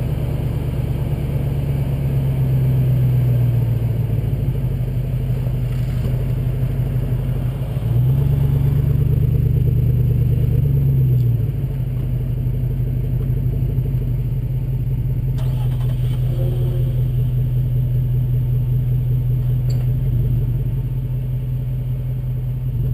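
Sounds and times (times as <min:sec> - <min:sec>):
car engine rumbling: 0:00.0 - 0:22.9.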